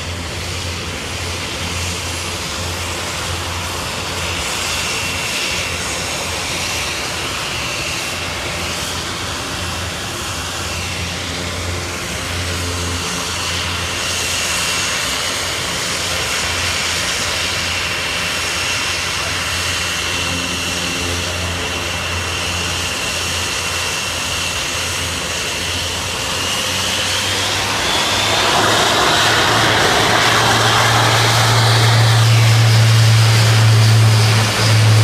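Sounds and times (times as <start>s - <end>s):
aircraft engines droning: 0.0s - 35.0s.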